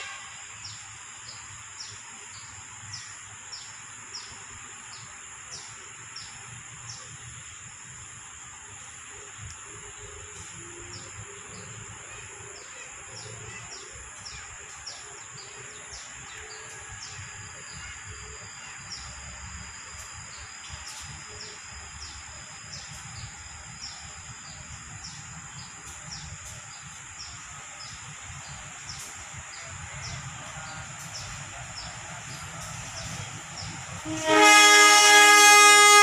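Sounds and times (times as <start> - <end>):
insects droning hum: 0.0 - 36.0.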